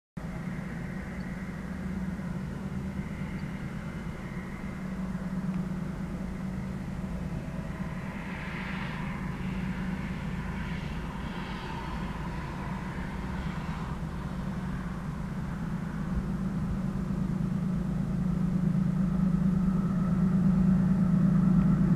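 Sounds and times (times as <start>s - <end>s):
distant low engine drone: 0.2s - 21.9s.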